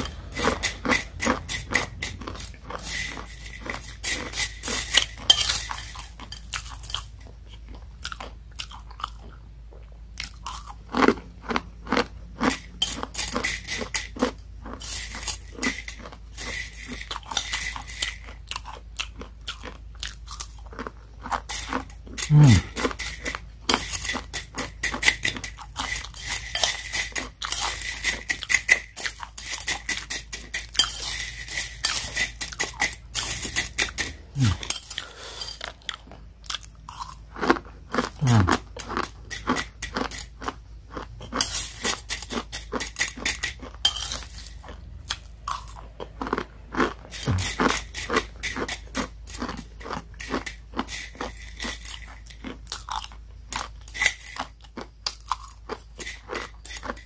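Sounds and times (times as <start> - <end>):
crunching dry noodles: 0.0 - 9.4, 10.1 - 57.0.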